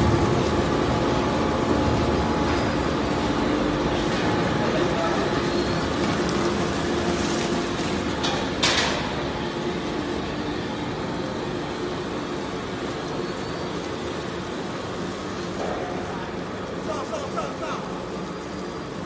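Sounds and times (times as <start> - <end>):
plastic shredder and conveyor running: 0.0 - 19.0.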